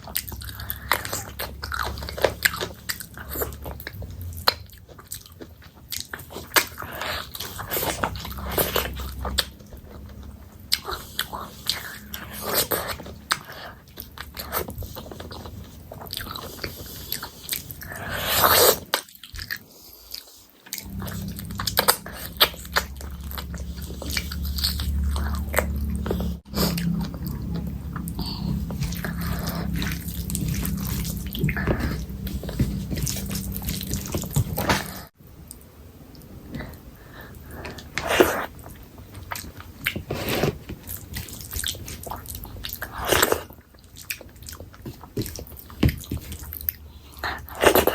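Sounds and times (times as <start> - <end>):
biting and chewing food: 0.0 - 35.6, 36.2 - 47.9
low steady hum: 0.0 - 47.9.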